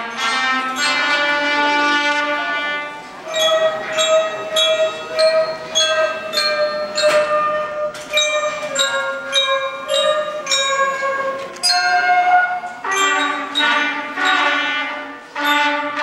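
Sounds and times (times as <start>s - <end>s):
flutes playing: 0.0s - 16.0s
glockenspiel notes: 0.0s - 16.0s
trumpet: 0.0s - 16.0s.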